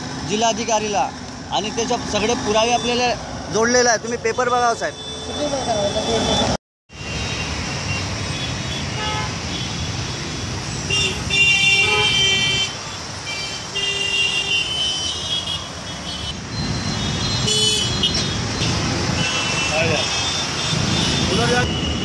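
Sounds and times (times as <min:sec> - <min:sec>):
city road traffic: 0:00.0 - 0:22.0
vehicle horns honking: 0:04.3 - 0:22.0.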